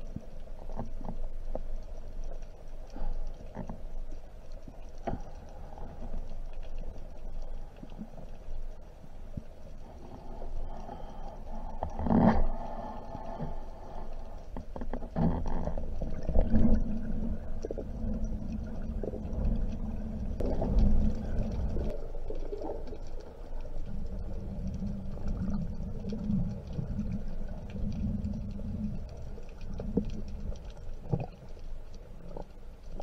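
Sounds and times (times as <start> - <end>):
faint clicks: 0.0 - 33.0
muffled underwater water rumble: 0.0 - 33.0.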